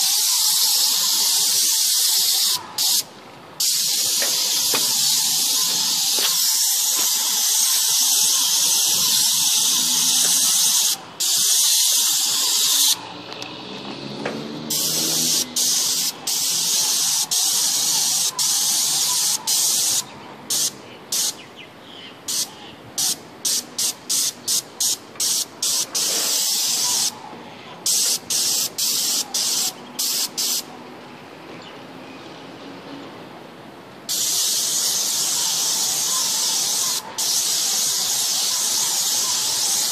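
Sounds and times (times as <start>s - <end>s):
paint spray gun hissing: 0.0s - 13.0s, 14.7s - 21.4s, 22.3s - 27.1s, 27.9s - 30.6s, 34.1s - 39.9s.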